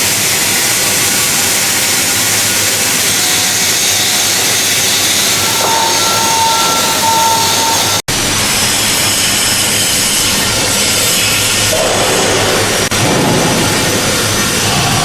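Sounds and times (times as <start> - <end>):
loud machine hiss: 0.0 - 15.0.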